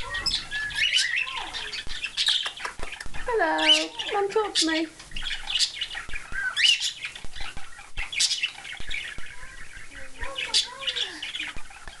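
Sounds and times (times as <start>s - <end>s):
cockatiels chirping: 0.0s - 12.0s
sharp high bird calls: 0.0s - 12.0s.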